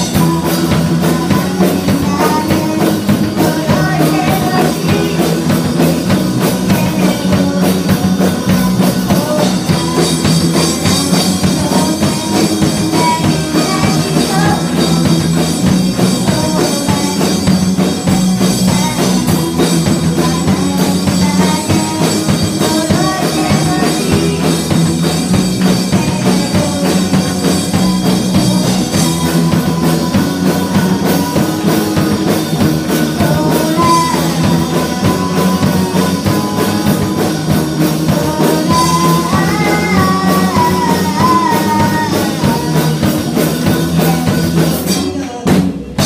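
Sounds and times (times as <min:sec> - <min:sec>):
rock band playing: 0:00.0 - 0:46.0.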